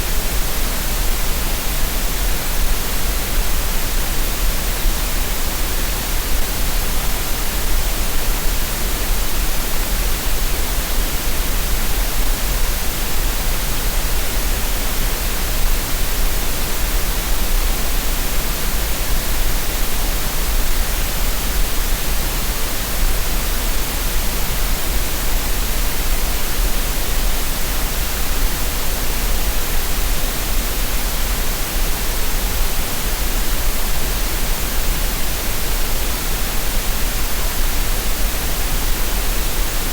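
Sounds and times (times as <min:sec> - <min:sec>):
steady green noise hiss: 0:00.0 - 0:39.9.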